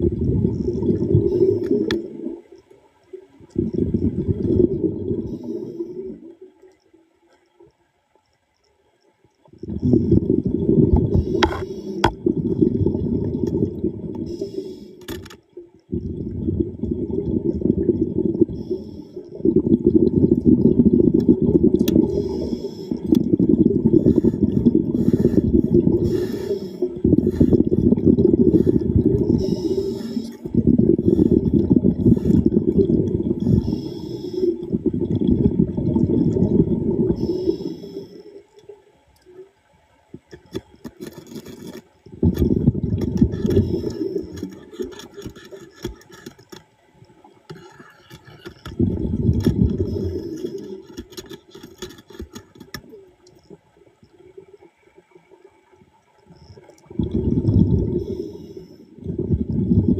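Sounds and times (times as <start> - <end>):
underwater exhaled air bubbles: 0.0 - 7.8, 9.3 - 59.9.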